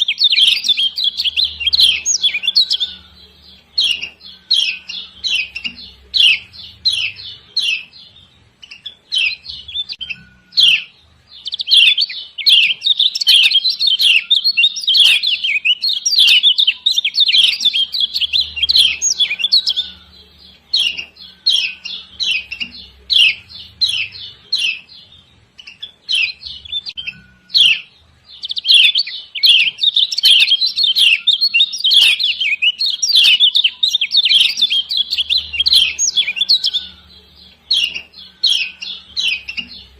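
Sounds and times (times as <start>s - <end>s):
bird chirping sharply: 0.0s - 39.9s.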